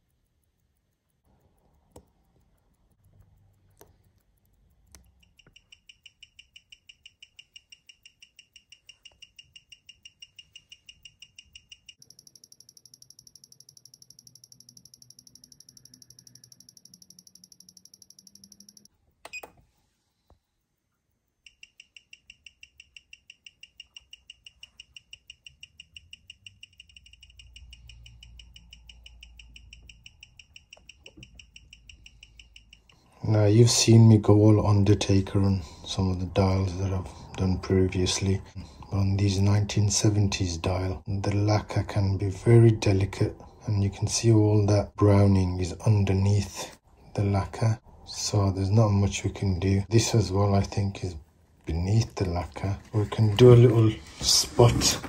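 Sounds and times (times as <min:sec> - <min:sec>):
watch ticking: 0:00.0 - 0:46.6.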